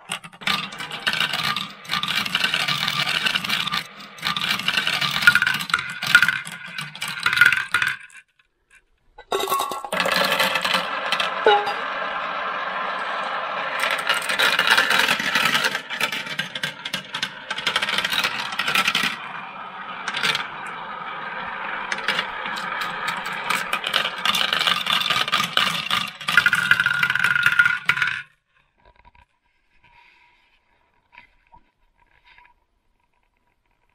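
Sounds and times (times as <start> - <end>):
marbles clinking into tray: 0.0 - 8.2, 9.2 - 28.3
marbles rolling down plastic track: 0.0 - 8.3, 9.2 - 29.2.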